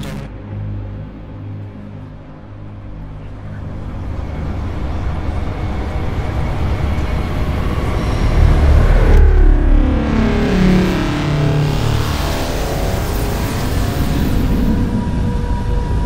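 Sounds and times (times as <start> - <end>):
spaceship hum and rumble: 0.0 - 16.0.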